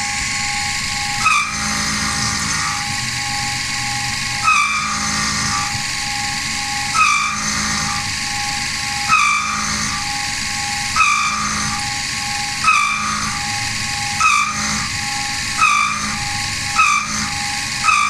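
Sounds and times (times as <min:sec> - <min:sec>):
milling machine motors whining: 0:00.0 - 0:18.0
steady machine hum: 0:00.0 - 0:18.0.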